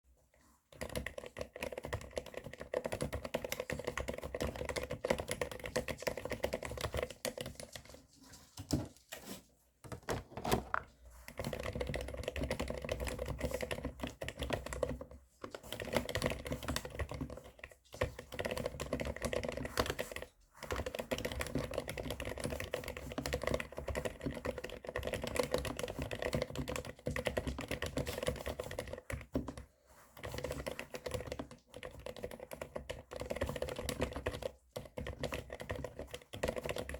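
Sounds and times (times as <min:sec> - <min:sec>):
muted keyboard typing: 0:00.7 - 0:08.0, 0:09.8 - 0:36.9.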